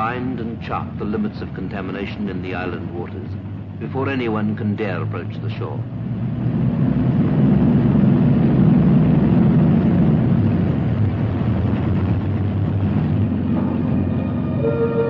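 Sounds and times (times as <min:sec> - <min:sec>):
motor boat engine rumbling: 0:00.0 - 0:15.0.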